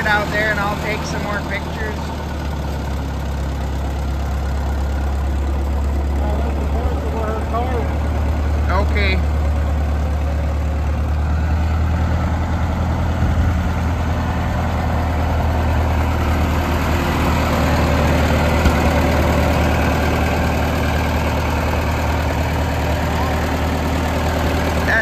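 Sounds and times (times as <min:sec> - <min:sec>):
tractor engine running at low revs: 0:00.0 - 0:25.0.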